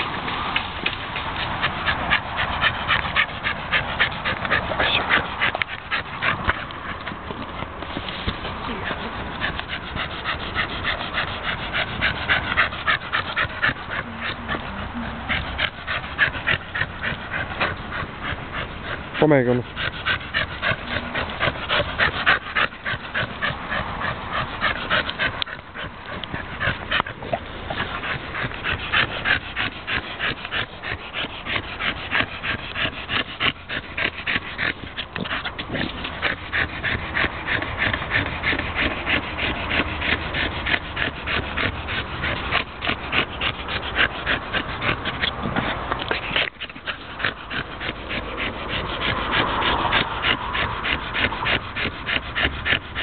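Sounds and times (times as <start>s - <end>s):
dog panting fast: 0.0s - 53.0s.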